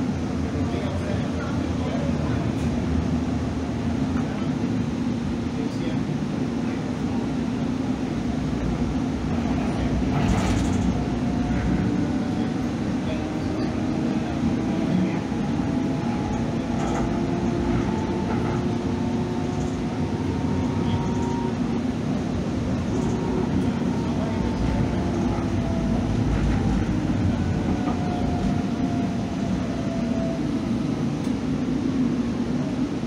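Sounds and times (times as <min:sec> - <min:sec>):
train rumble: 0:00.0 - 0:33.0.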